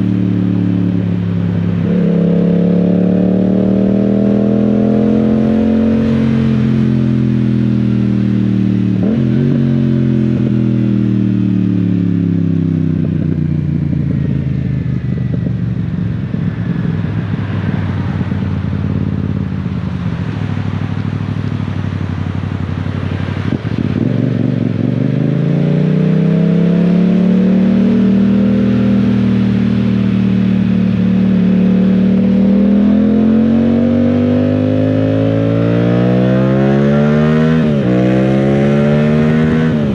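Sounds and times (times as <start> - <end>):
motorcycle engine revving: 0.0 - 39.9
wind: 0.0 - 39.9.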